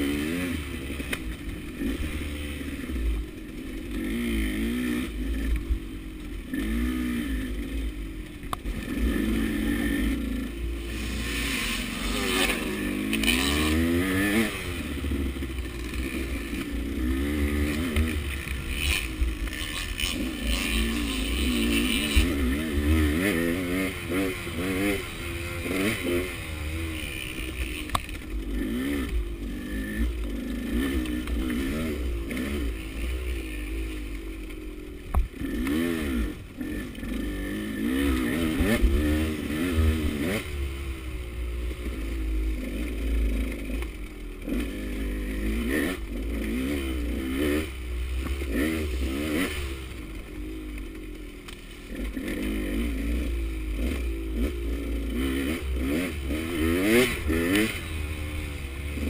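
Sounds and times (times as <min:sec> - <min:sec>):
two-stroke dirt bike engine revving: 0:00.0 - 0:59.0.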